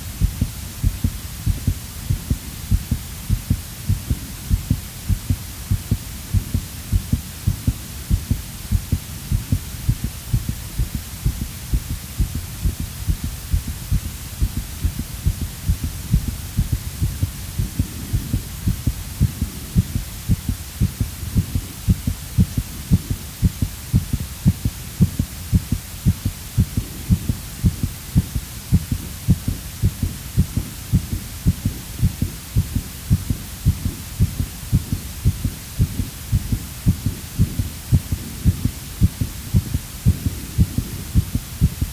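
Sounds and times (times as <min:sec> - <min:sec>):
heartbeat: 0:00.0 - 0:41.9
steady low hum: 0:00.0 - 0:41.9.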